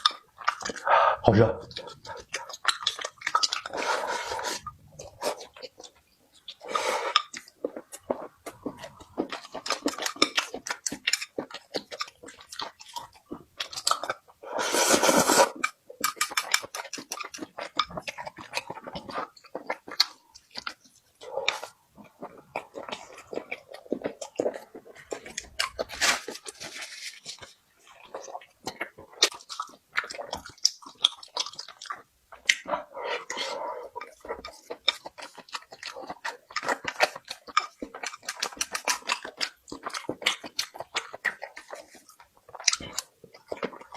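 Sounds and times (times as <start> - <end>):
food chewing and crunching: 0.0 - 43.9.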